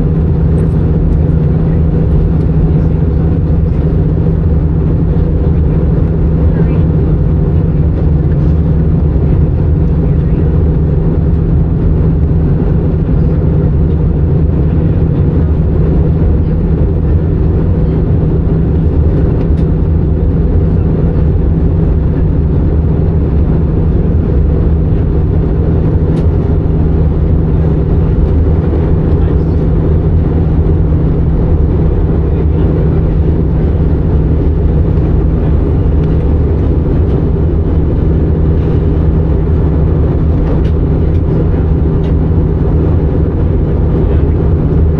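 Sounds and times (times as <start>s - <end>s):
airliner cabin engine drone: 0.0s - 44.9s.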